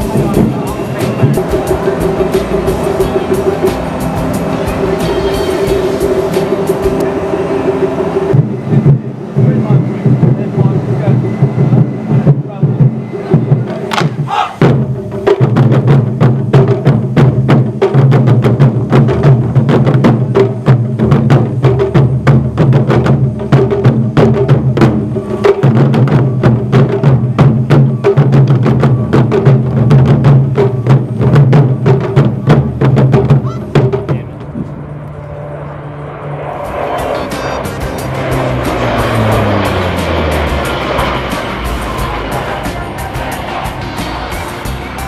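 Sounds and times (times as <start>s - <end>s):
drum ensemble playing fast strikes: 0.0s - 34.4s, 37.0s - 45.0s.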